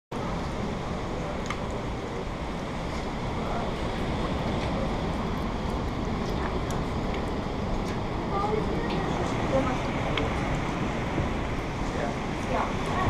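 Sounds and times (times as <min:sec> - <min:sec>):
heavy rain and wind rushing: 0:00.1 - 0:13.0.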